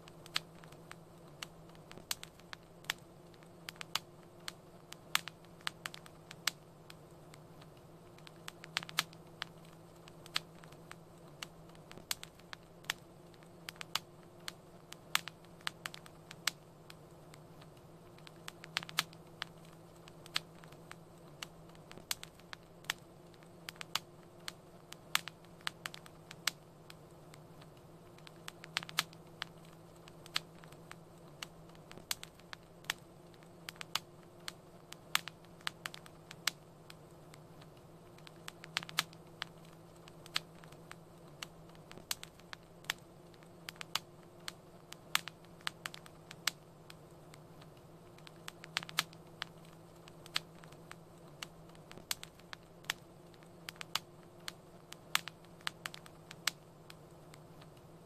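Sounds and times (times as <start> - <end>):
faint low hum: 0.0 - 58.0
wood fire crackling: 0.0 - 58.0.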